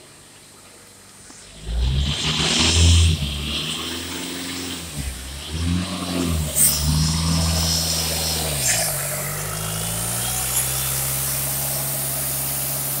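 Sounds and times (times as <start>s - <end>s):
diesel engine idling: 0.8s - 13.0s.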